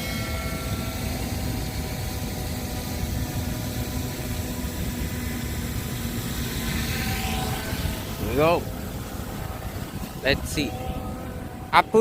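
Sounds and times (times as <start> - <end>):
drone propellers humming: 0.0 - 12.0
wind buffeting microphone: 0.0 - 12.0.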